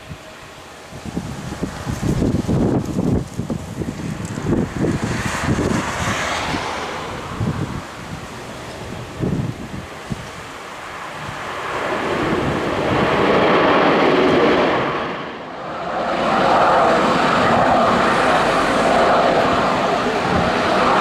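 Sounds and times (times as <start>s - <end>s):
jet engines rushing: 0.0s - 21.0s.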